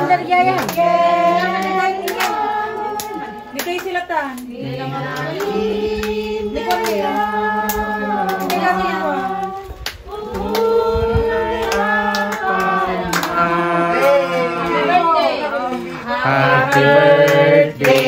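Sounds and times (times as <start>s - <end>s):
voices singing together: 0.0s - 18.0s
hand claps: 0.4s - 4.5s, 5.1s - 14.4s, 16.7s - 18.0s.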